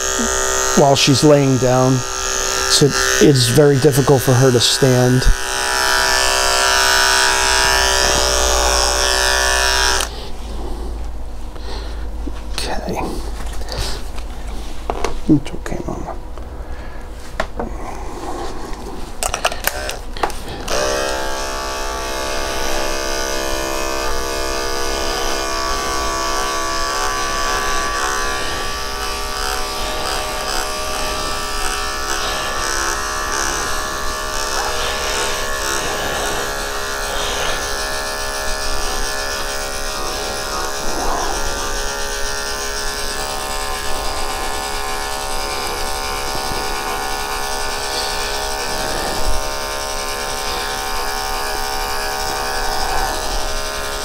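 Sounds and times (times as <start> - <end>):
electric clippers buzzing: 0.0 - 12.5, 18.4 - 54.0.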